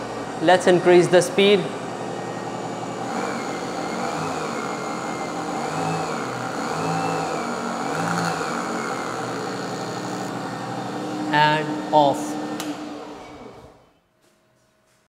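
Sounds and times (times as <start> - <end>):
electric motor whining: 0.0 - 13.8.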